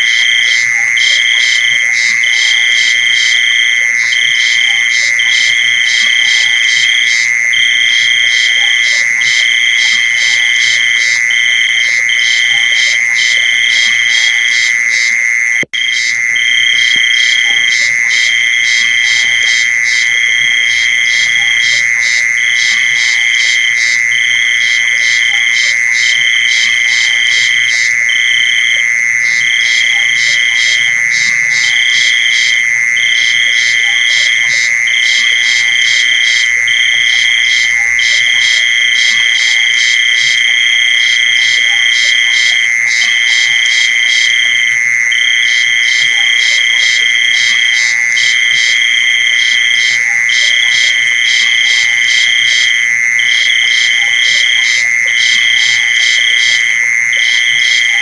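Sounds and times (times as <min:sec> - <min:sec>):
steady insect trill: 0:00.0 - 0:58.0.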